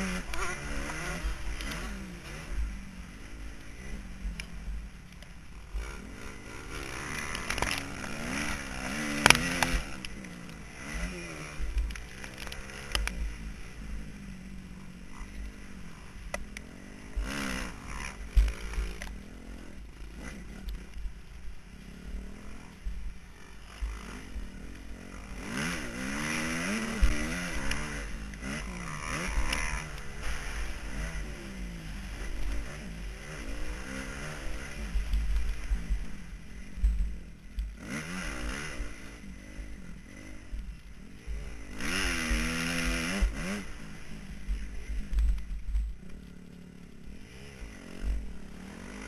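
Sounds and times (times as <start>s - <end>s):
motocross bike engine revving: 0.0s - 49.0s.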